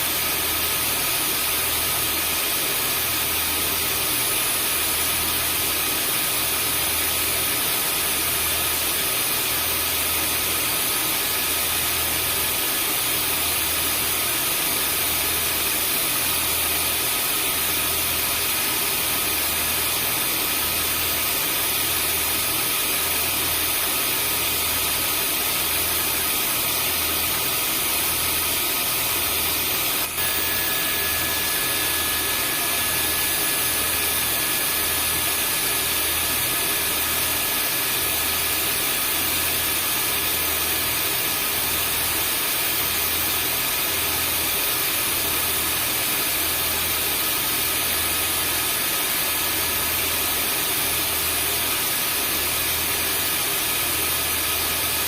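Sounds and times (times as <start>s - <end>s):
vacuum cleaner motor running: 0.0s - 55.0s.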